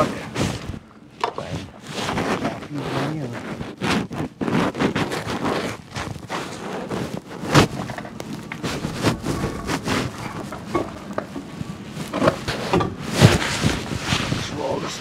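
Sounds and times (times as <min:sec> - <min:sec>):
propeller scuffing and knocking: 0:00.0 - 0:14.8.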